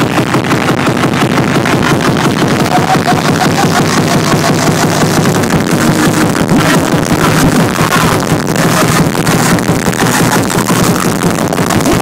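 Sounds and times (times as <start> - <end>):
live drum and bass music: 0.0 - 12.0.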